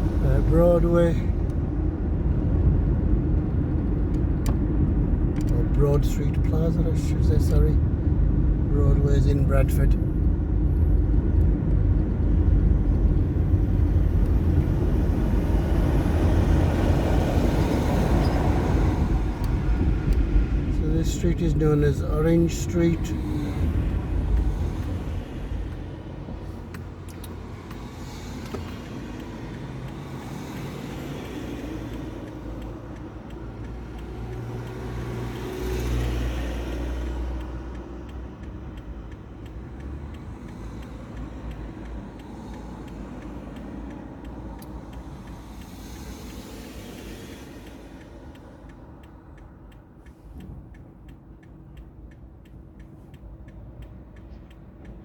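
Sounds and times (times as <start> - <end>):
turn indicator ticking: 0.0 - 55.0
vehicle engine and road rumble: 0.0 - 55.0.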